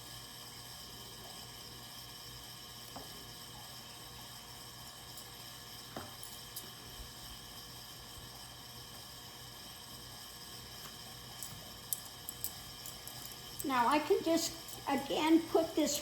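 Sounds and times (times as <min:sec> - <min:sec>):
heating and cooling fan humming: 0:00.0 - 0:16.0.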